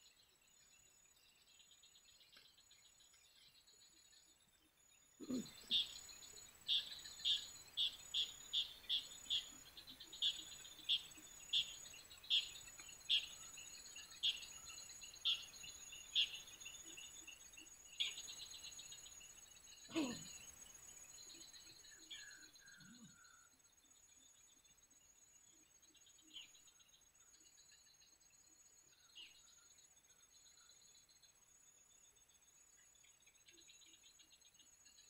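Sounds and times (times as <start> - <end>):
insect sharp chirps: 0.0 - 35.0.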